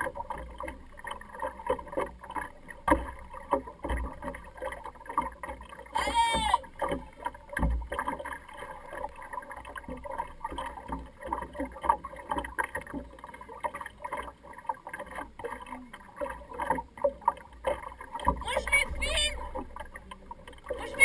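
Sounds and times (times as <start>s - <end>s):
water splashing against boat hull: 0.0s - 21.0s.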